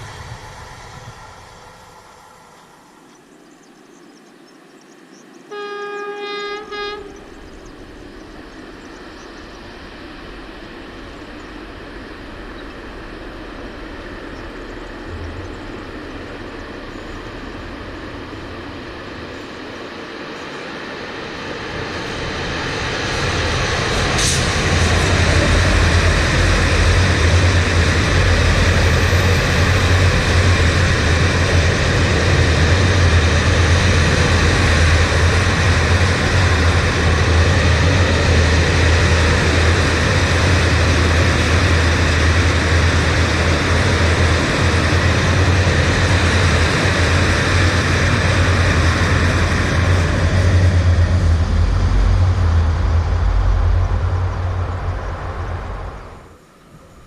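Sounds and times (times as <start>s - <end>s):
train passing rumble: 0.0s - 57.0s.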